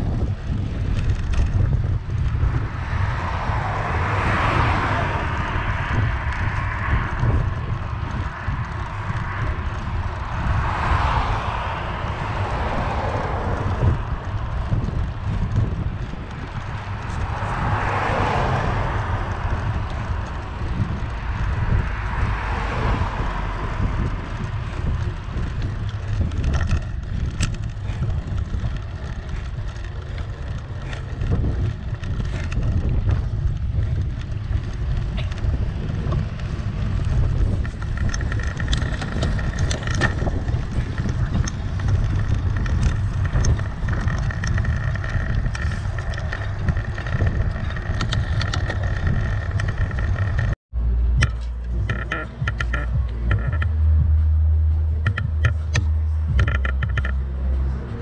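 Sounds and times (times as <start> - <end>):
low rumble: 0.0 - 58.0
passing traffic: 0.0 - 58.0
wind buffeting camera: 0.0 - 58.0.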